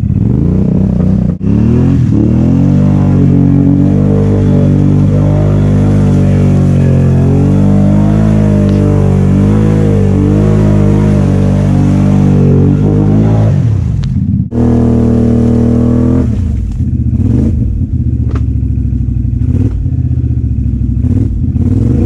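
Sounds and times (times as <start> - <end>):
vehicle ploughing through mud: 0.0 - 20.3
atv engine revving: 0.0 - 22.0.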